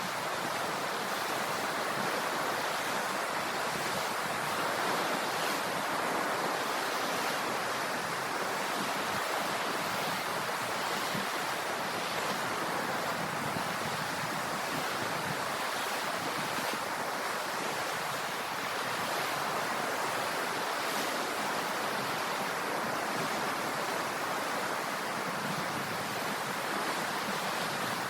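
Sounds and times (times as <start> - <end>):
ocean waves washing: 0.0 - 28.0.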